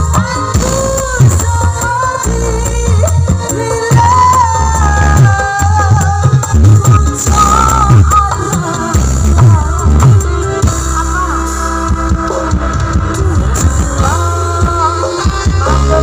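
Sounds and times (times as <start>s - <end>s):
bass notes: 0.0s - 16.0s
live band over loudspeakers: 0.0s - 16.0s.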